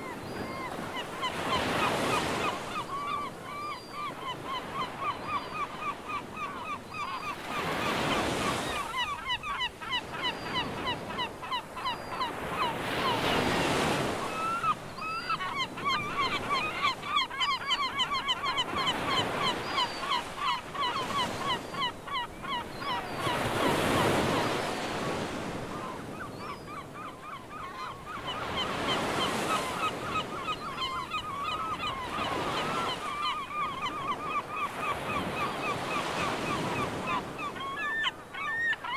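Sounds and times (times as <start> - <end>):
flock of birds calling: 0.0 - 38.9.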